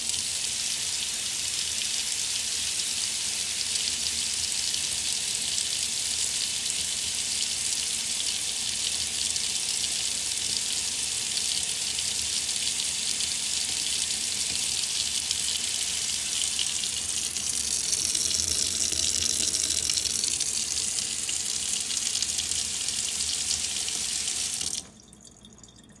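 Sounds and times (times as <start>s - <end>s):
water faucet running: 0.0s - 26.0s.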